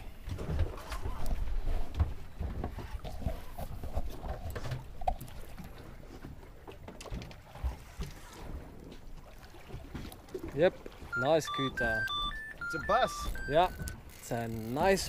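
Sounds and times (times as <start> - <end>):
water slapping boat hull: 0.0 - 15.0
knocks and thumps on boat: 0.1 - 15.0.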